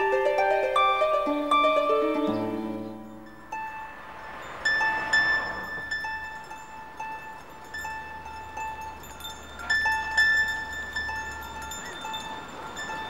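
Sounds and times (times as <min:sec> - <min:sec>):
plucked string notes: 0:00.0 - 0:13.0.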